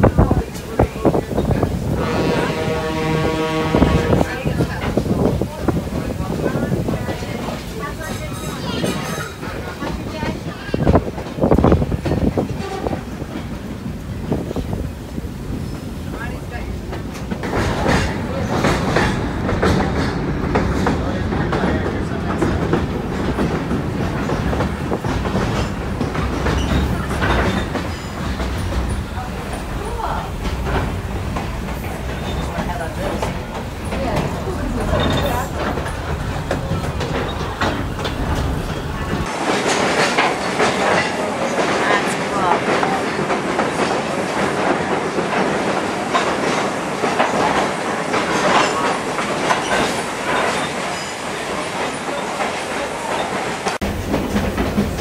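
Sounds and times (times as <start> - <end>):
train car rumble: 0.0 - 55.0
wheels clacking over rail joints: 0.0 - 55.0.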